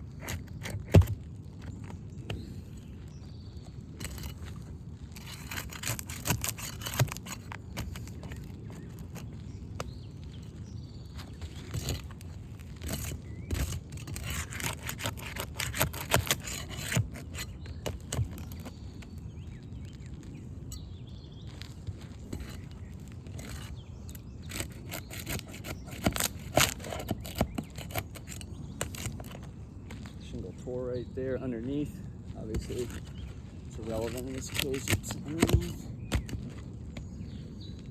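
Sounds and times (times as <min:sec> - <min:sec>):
roof shingles scraping and crackling: 0:00.0 - 0:37.9.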